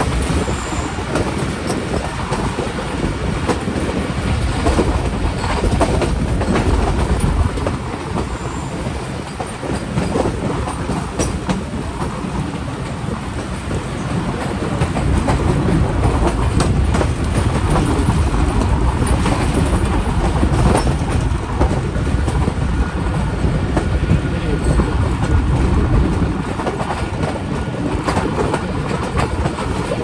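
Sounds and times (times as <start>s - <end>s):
clacks at rail joints: 0.0s - 30.0s
train wheels rumbling on rails: 0.0s - 30.0s.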